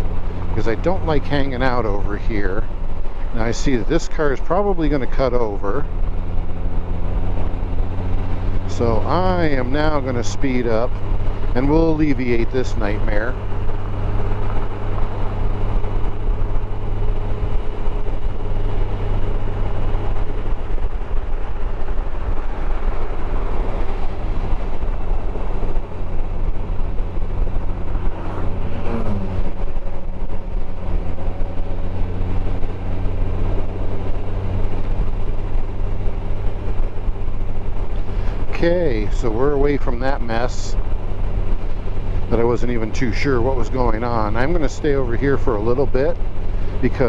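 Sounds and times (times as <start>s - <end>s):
constant rushing noise: 0.0s - 47.0s
motorcycle engine running: 0.0s - 47.0s.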